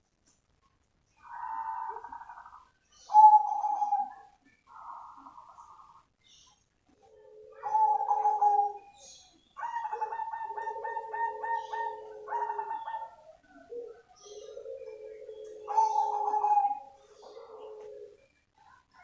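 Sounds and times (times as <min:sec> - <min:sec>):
dove cooing and trilling: 0:01.2 - 0:06.0, 0:06.9 - 0:18.3.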